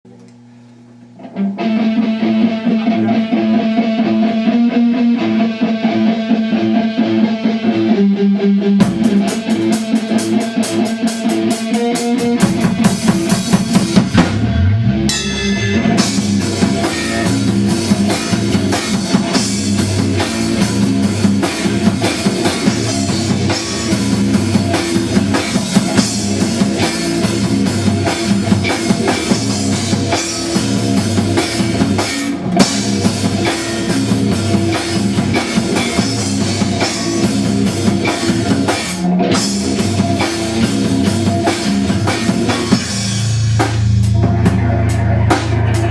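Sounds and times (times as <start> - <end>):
bass guitar: 0.1 - 45.9
electric guitar: 0.1 - 45.9
drum kit: 1.2 - 45.9.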